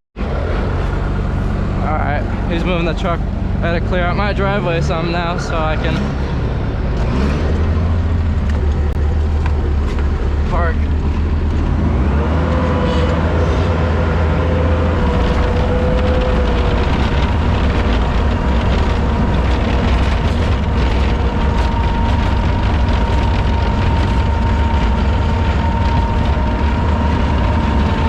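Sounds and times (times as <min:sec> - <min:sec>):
truck engine rumbling: 0:00.1 - 0:28.0.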